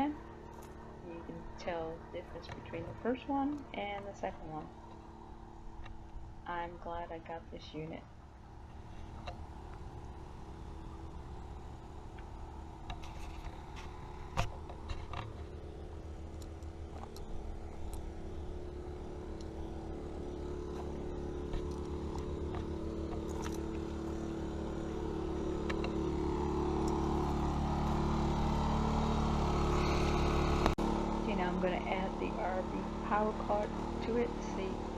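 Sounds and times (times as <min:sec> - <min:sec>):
generator running: 0:00.0 - 0:34.9.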